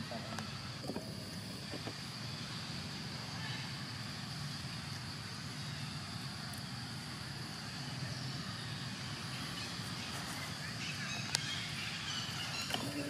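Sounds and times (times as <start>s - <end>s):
thin steady high whine: 0.0s - 13.0s.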